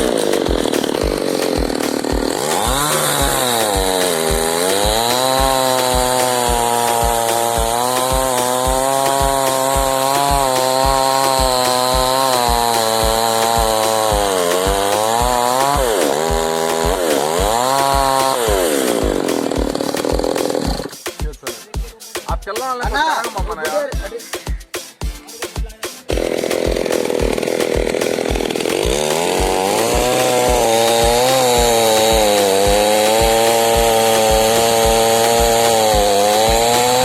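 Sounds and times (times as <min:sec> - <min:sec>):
chainsaw running at high revs: 0:00.0 - 0:21.0, 0:26.1 - 0:37.0
music: 0:00.0 - 0:37.0
steady drum beat: 0:00.0 - 0:37.0.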